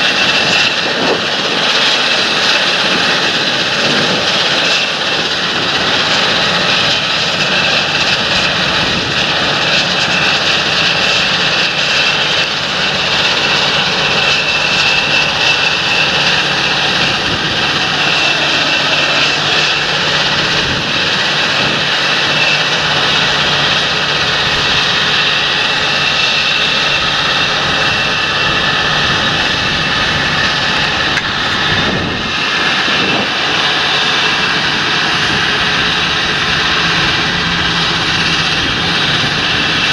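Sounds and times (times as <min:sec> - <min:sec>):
high engine whine: 0:00.0 - 0:39.9
tractor engine: 0:00.0 - 0:39.9.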